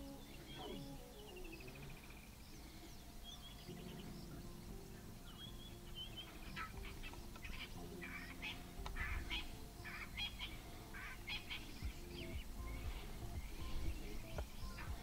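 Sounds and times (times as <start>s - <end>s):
birds trilling and chirping: 0.0s - 15.0s
low steady hum: 0.0s - 15.0s.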